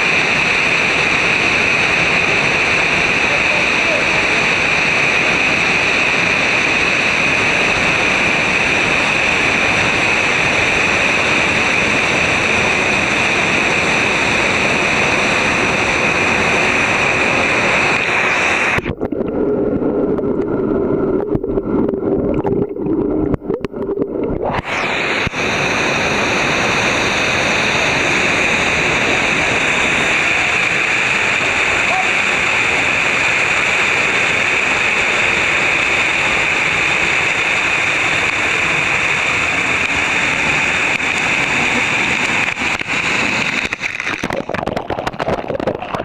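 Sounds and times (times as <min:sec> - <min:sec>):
waterfall rushing: 0:00.0 - 0:19.0, 0:22.3 - 0:46.0.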